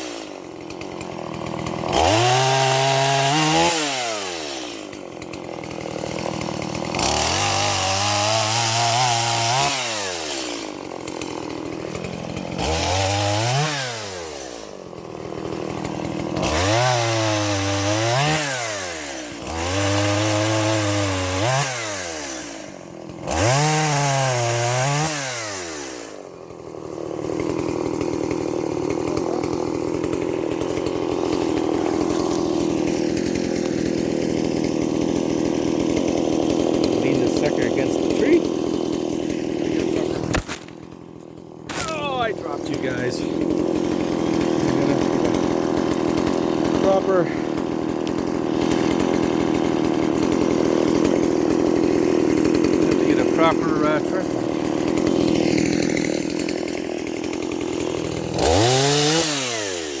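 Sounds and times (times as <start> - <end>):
chainsaw engine revving: 0.0 - 60.0.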